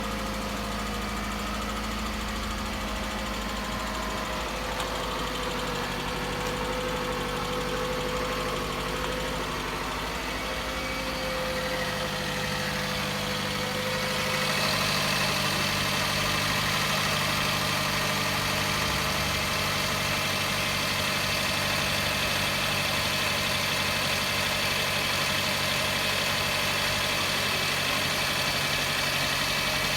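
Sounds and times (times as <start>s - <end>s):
car engine idling with knock: 0.0s - 29.9s.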